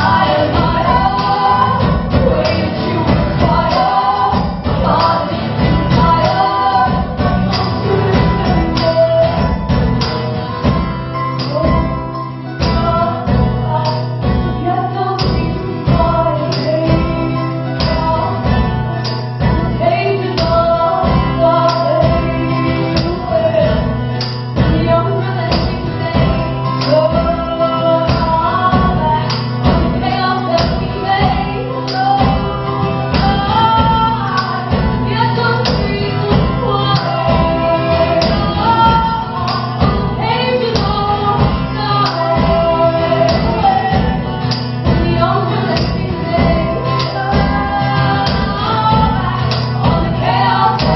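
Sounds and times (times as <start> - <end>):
strummed rhythm: 0.0 - 50.9
women singing: 0.0 - 50.9.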